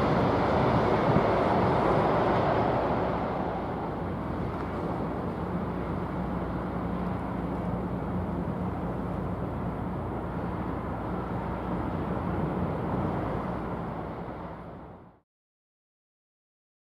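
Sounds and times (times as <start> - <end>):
ship engines droning: 0.0 - 15.2.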